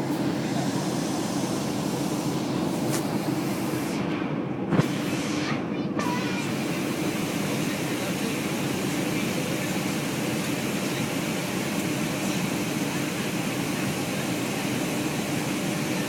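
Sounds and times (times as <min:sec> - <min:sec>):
airliner cabin noise: 0:00.0 - 0:05.1, 0:05.7 - 0:16.0.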